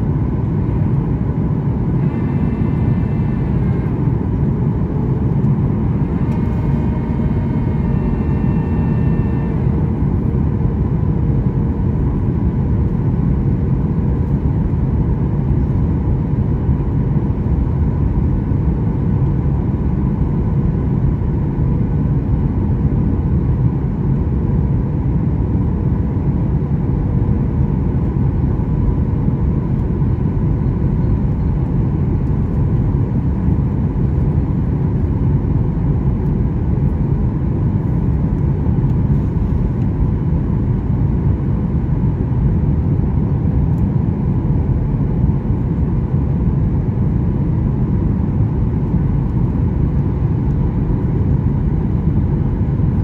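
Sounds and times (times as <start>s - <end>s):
faint steady hum: 0.0s - 53.0s
jet engine drone: 0.0s - 53.0s.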